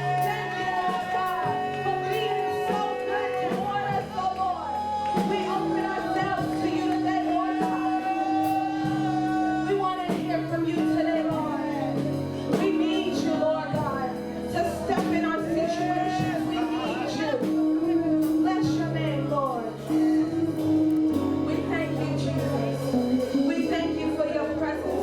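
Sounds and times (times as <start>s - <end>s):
person singing: 0.0s - 25.0s
sustained instrumental chords: 0.0s - 25.0s.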